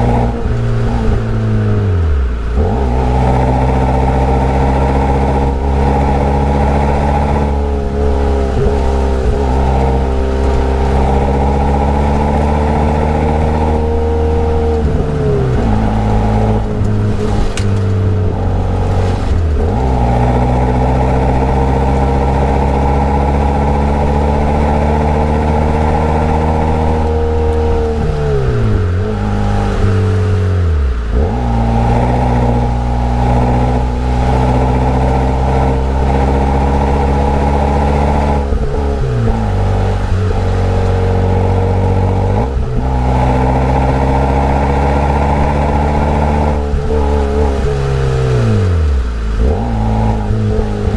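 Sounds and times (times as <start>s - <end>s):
car engine pulling hard: 0.0s - 50.9s.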